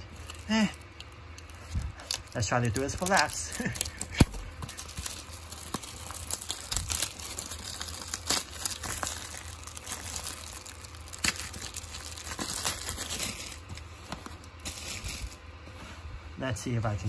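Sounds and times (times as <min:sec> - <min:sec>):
plastic wrap crinkling and tearing: 0:00.0 - 0:15.4.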